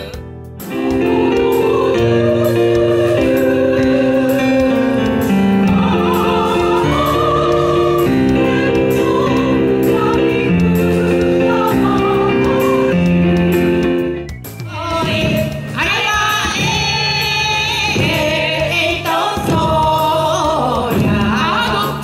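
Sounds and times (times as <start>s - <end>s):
women's choir singing: 0.7s - 13.4s, 14.7s - 22.0s.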